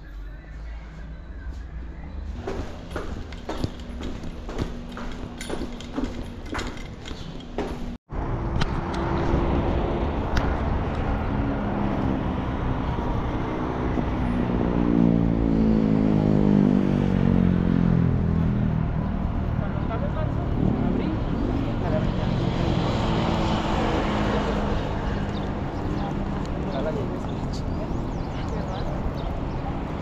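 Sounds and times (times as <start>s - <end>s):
city traffic noise: 0.0s - 30.0s
low street hum: 0.0s - 30.0s.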